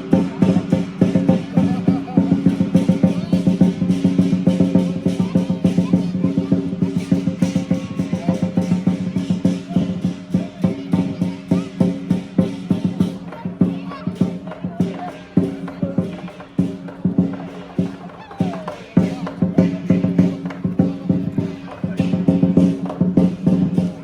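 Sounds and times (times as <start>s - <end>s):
drum beaten in fast rolls: 0.0s - 24.0s.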